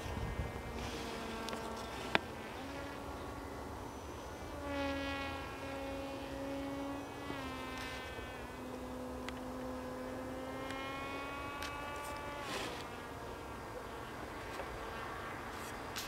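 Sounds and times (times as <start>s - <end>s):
model plane motor buzzing: 0.0s - 16.0s.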